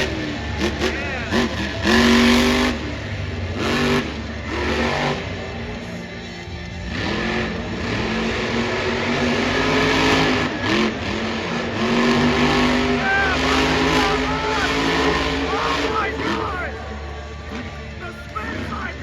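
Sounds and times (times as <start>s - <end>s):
engine revving hard: 0.0s - 5.6s, 6.8s - 19.0s
arena noise: 0.0s - 19.0s.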